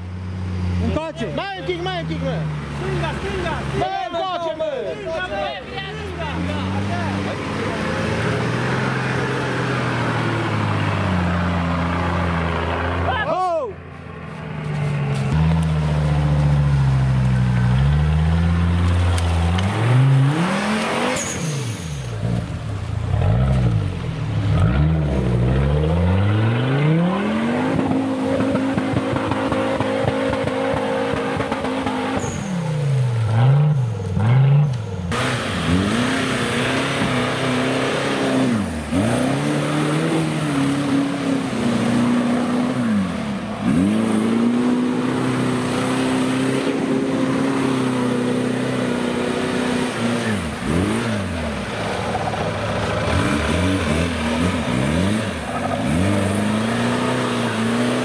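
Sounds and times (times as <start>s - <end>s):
buggy engine revving hard: 5.1s - 13.3s, 15.3s - 58.0s.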